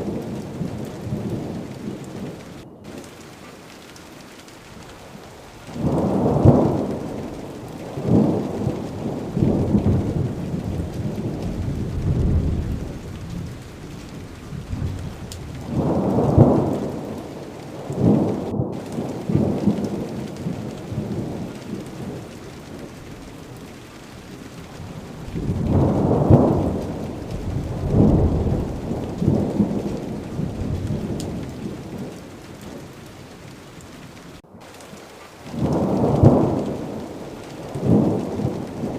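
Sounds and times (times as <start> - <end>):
steady rain falling: 0.0 - 38.9
rolling thunder rumbling: 4.6 - 34.4, 35.5 - 38.9.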